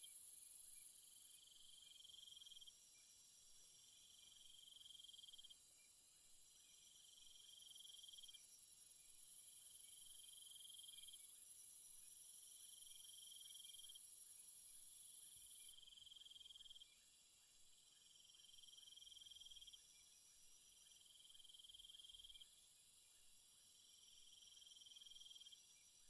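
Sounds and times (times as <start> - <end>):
insect trill: 0.0 - 26.0.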